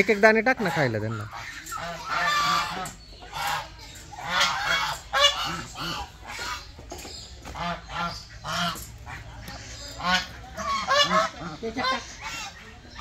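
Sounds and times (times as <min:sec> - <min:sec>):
geese honking: 0:00.0 - 0:06.8, 0:07.4 - 0:13.0.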